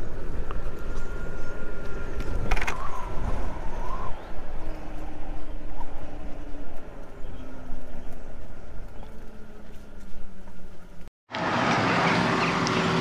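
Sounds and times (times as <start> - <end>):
wind buffeting: 0.0 - 11.0
road rumble: 0.0 - 13.0.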